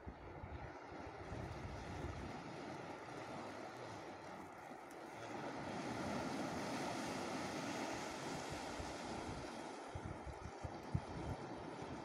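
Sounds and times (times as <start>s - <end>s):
sea waves breaking on rocks: 1.6s - 12.0s.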